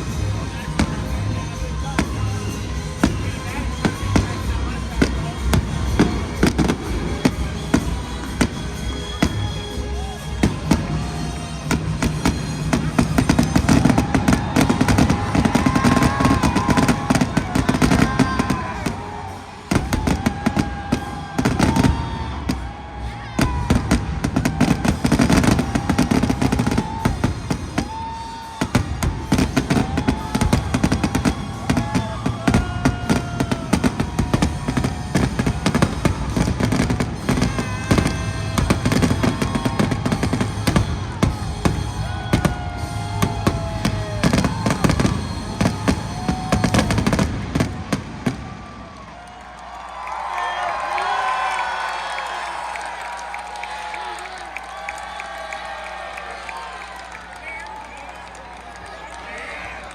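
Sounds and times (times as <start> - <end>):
loud melodic music: 0.0 - 48.3
fireworks bangs and crackles: 0.0 - 49.8.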